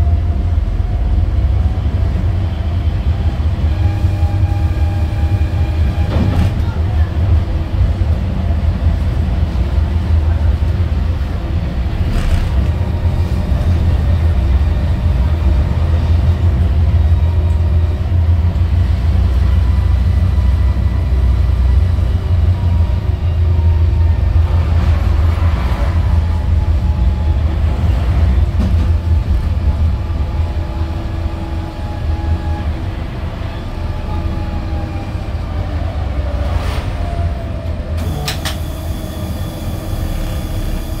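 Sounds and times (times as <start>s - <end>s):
tram wheels rumbling: 0.0s - 41.0s.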